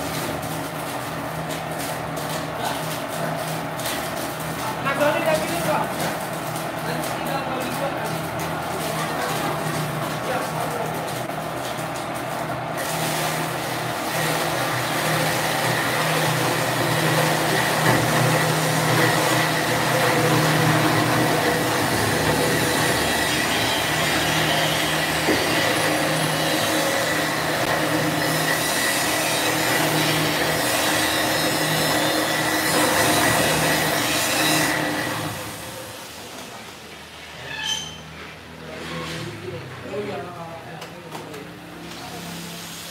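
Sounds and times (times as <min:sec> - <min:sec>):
bowl cutter humming and whining: 0:00.0 - 0:36.0.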